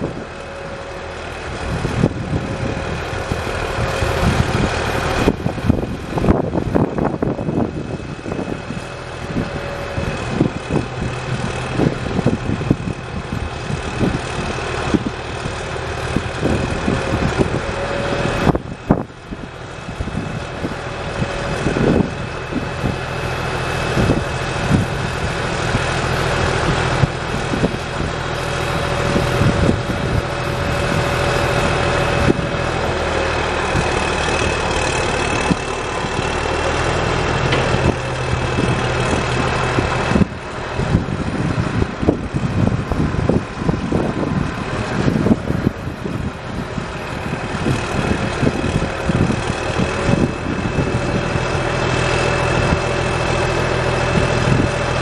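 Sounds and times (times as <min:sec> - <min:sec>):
diesel engine running: 0:00.0 - 0:55.0
hydraulic whine: 0:00.0 - 0:55.0.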